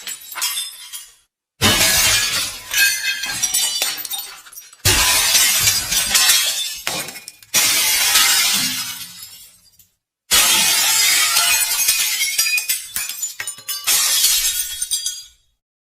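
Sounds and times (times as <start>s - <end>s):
glass shards tinkling: 0.0s - 1.2s, 1.8s - 9.8s, 10.8s - 15.5s
glass shattering: 0.0s - 15.5s.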